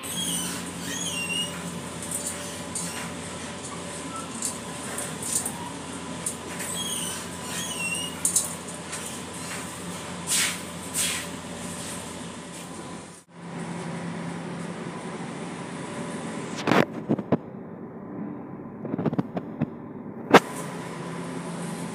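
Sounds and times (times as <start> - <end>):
kitchen ventilation hum: 0.0 - 21.9.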